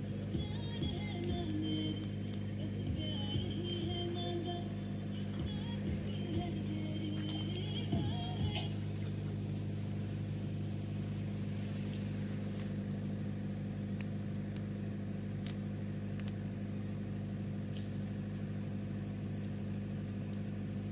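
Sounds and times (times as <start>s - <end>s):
campfire crackling: 0.0s - 20.9s
low engine hum: 0.0s - 20.9s.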